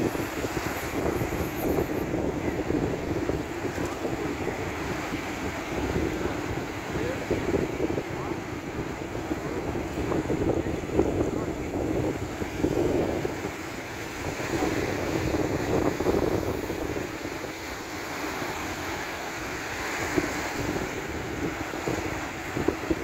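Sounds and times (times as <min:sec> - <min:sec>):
surf breaking on a beach: 0:00.0 - 0:23.0
wind buffeting the microphone: 0:00.0 - 0:23.0.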